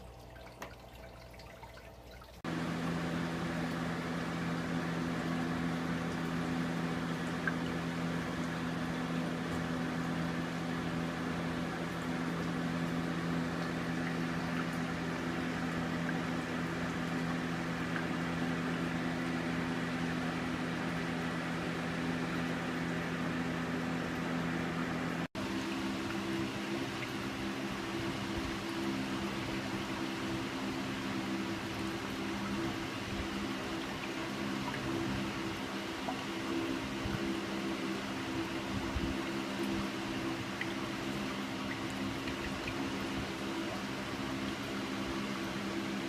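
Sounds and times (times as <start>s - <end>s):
water pump hum: 0.0s - 46.0s
water trickling: 0.0s - 46.0s.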